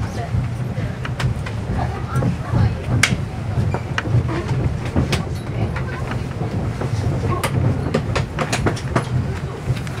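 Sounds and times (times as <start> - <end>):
train low rumble: 0.0 - 10.0
wheels clicking on track: 0.0 - 10.0.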